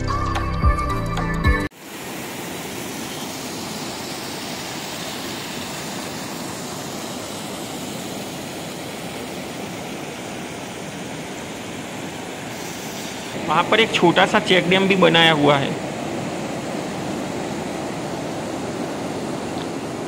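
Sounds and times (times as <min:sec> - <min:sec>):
water rushing over rocks: 0:01.8 - 0:20.0.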